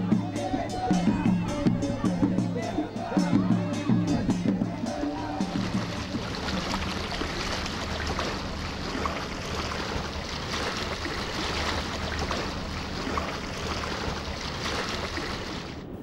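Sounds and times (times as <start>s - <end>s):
boat motor droning: 0.0s - 15.5s
water splashing along hull: 0.0s - 16.0s.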